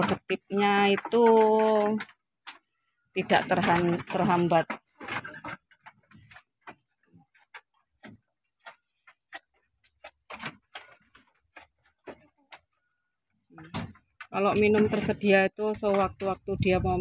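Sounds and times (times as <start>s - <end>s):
sheep clicking at metal trough: 0.0s - 12.8s, 13.6s - 17.0s.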